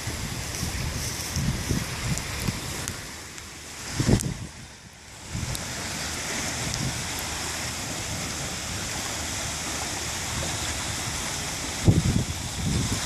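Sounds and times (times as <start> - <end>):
river ice and slush hissing: 0.0 - 13.0.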